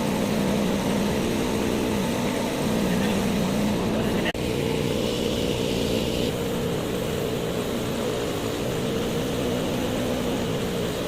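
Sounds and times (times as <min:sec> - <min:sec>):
mechanical drone with hum: 0:00.0 - 0:11.0.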